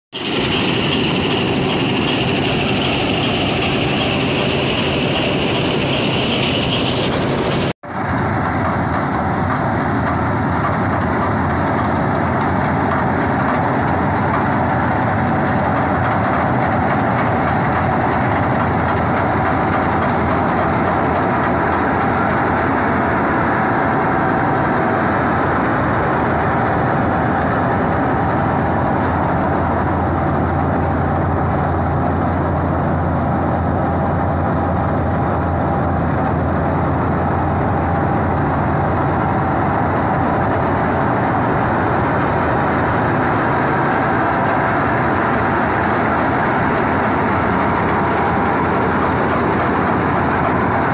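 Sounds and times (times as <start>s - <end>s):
combine harvester running: 0.1s - 50.9s.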